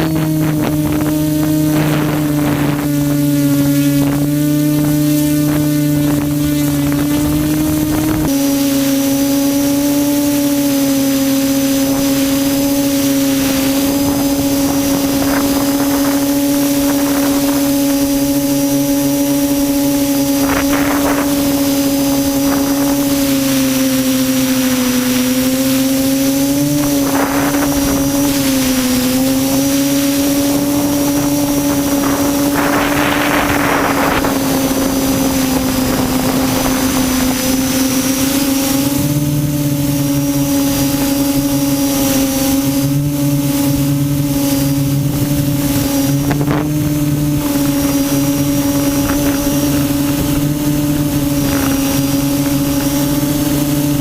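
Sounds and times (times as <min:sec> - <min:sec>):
low buzz: 0:00.0 - 0:54.0
quadcopter propellers humming: 0:00.0 - 0:54.0
rushes of air noise: 0:00.0 - 0:54.0.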